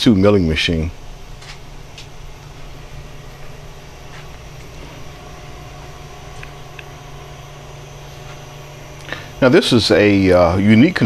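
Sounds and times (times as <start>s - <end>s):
low machine hum: 0.0s - 11.0s
thin steady whine: 0.0s - 11.0s.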